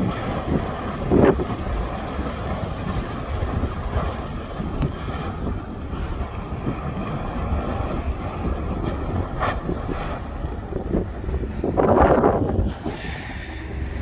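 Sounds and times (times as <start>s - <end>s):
lava splashing and spattering: 0.0s - 13.7s
wind on microphone: 0.0s - 14.0s.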